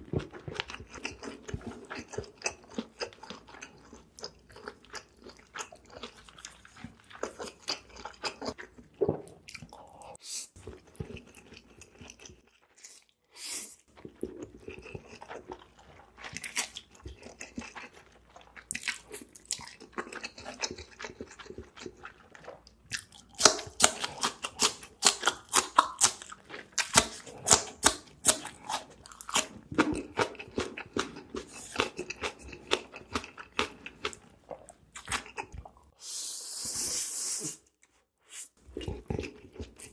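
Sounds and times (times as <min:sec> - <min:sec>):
chewing food: 0:00.0 - 0:13.2, 0:13.9 - 0:35.9, 0:38.6 - 0:39.9.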